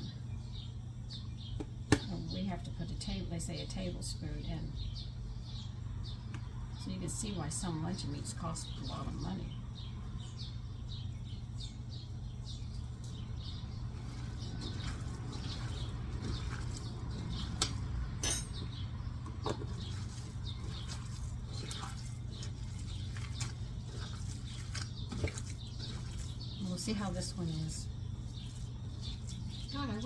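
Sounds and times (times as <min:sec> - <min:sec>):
small bird chirping: 0:03.5 - 0:30.0.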